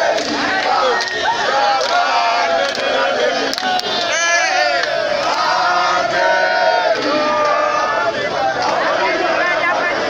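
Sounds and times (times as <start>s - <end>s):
crowd shouting and chanting: 0.0s - 10.0s.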